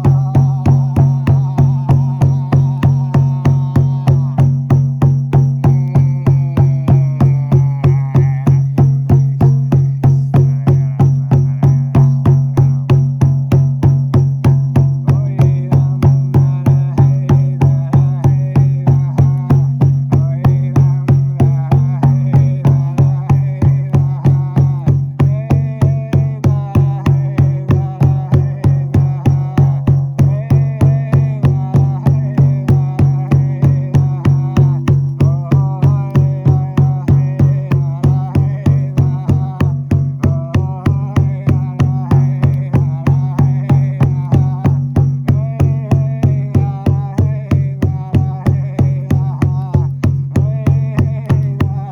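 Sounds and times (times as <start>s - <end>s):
frame drum beating: 0.0s - 51.9s.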